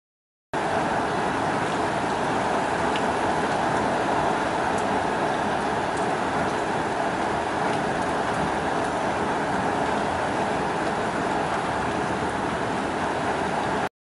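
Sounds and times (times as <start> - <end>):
faint ticks of raindrops: 0.6 - 13.9
rain hissing: 0.6 - 13.9.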